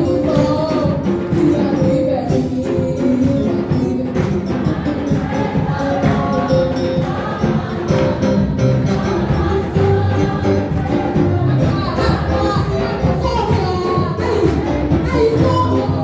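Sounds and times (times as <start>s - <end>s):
tambourine and percussion beat: 0.0s - 16.0s
group singing: 3.2s - 16.0s.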